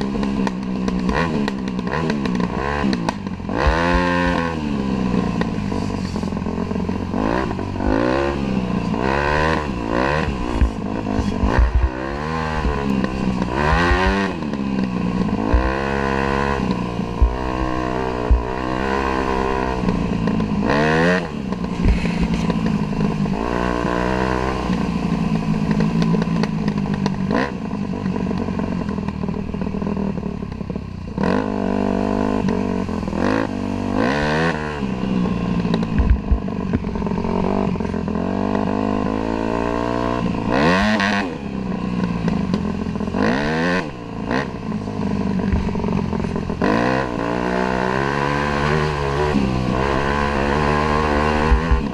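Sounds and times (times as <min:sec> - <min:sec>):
dirt bike engine running hard: 0:00.0 - 0:51.9.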